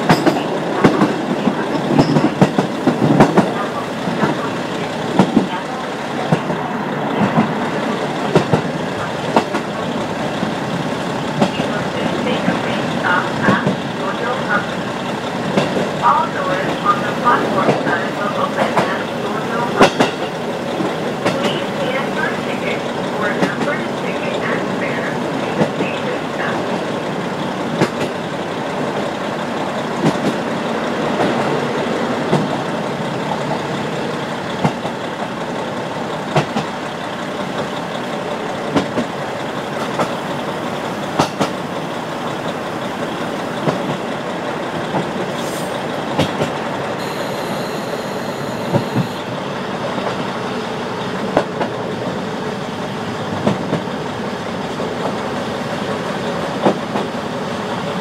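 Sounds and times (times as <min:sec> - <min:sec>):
railcar rumbling on track: 0:00.0 - 0:58.0.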